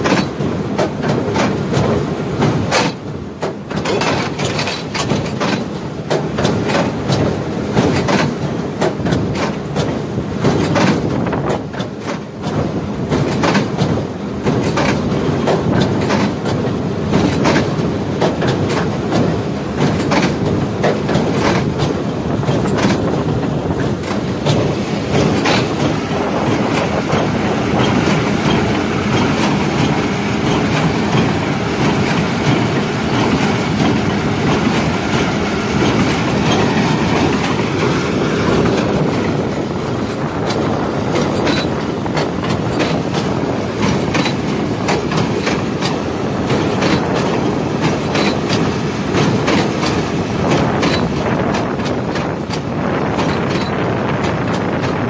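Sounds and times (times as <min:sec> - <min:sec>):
baler mechanical clatter: 0:00.0 - 0:55.0.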